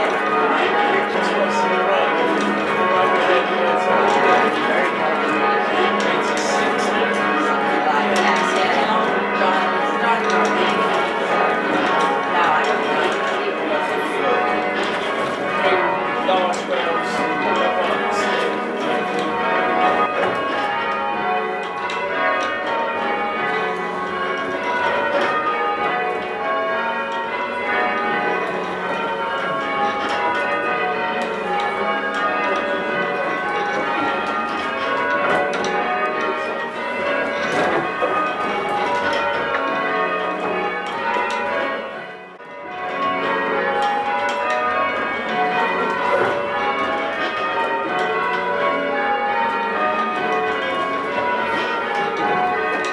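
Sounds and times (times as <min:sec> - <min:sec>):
church bells ringing: 0:00.0 - 0:52.9.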